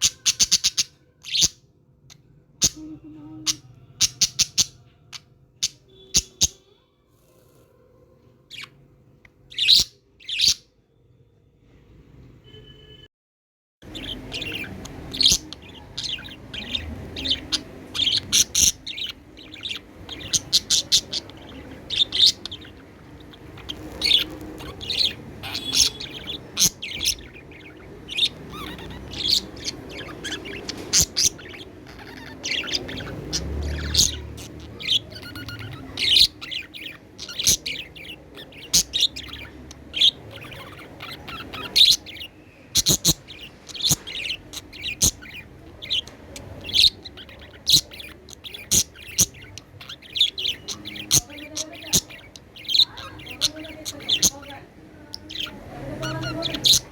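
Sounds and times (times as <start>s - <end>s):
budgerigar chirping: 0.0s - 6.6s, 8.5s - 10.7s, 13.8s - 56.9s.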